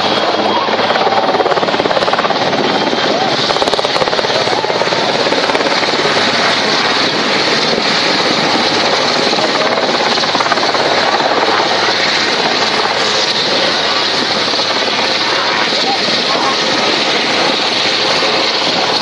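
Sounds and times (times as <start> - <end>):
helicopters hovering overhead: 0.0 - 19.0.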